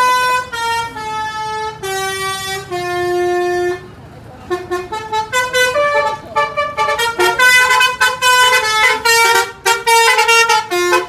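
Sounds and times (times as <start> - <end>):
multi-tone bus horn melody: 0.0 - 11.0.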